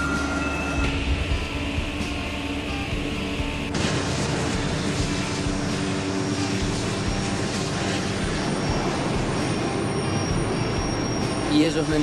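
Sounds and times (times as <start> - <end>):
subway train rumbling in tunnel: 0.0 - 12.0.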